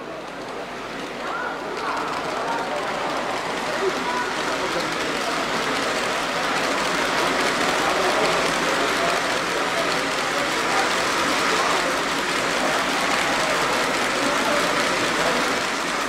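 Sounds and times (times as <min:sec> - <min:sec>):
crowd hubbub in hall: 0:00.0 - 0:16.0
model train wheels rattling: 0:00.0 - 0:16.0.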